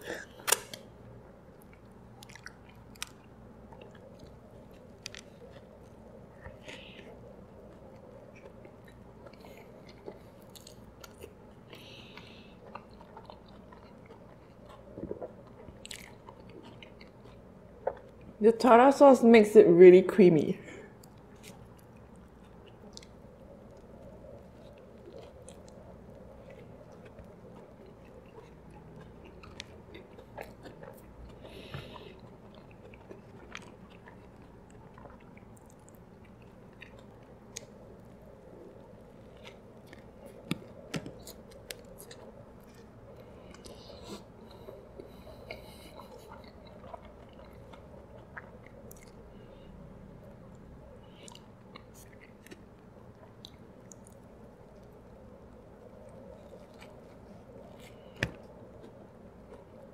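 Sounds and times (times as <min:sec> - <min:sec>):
person chewing food: 0:00.0 - 0:18.4, 0:20.7 - 0:59.9.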